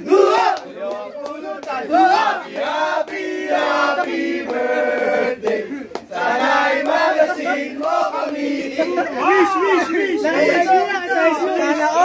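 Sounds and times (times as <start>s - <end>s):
men singing together: 0.0s - 10.7s.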